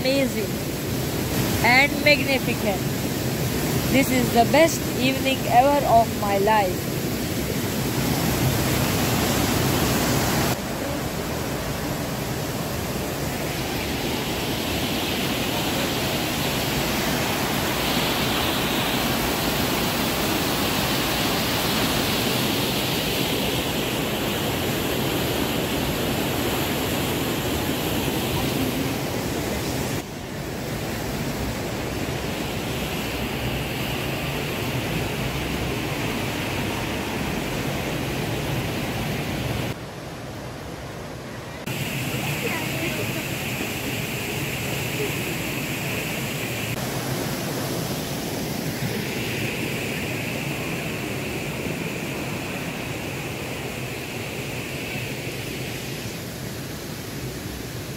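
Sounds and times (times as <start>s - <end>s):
water rushing over rapids: 0.0s - 57.9s.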